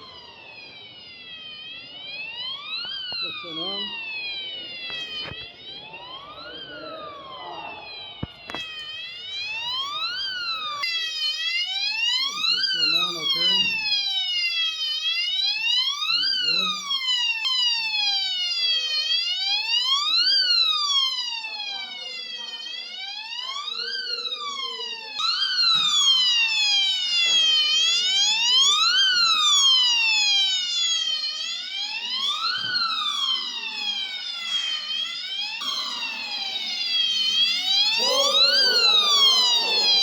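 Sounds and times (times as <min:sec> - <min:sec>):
fire alarm siren wailing: 0:00.0 - 0:40.0.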